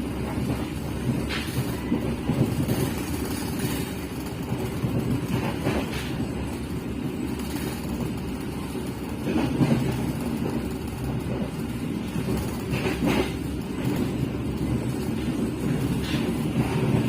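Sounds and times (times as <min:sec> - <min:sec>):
sharp clacks of train wheels: 0:00.0 - 0:17.0
train wheels rumbling on rails: 0:00.0 - 0:17.0.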